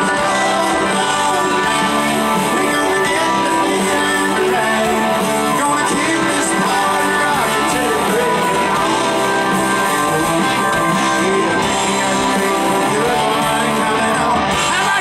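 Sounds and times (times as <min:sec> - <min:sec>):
man singing lead: 0:00.0 - 0:15.0
rock band playing: 0:00.0 - 0:15.0.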